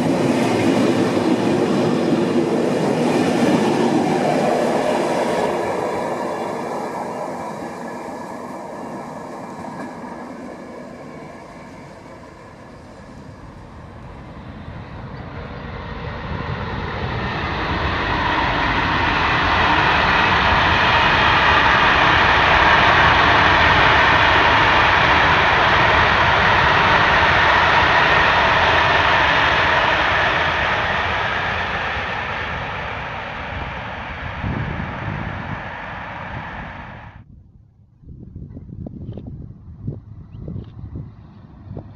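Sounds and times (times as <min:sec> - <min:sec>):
train passing: 0:00.0 - 0:37.2.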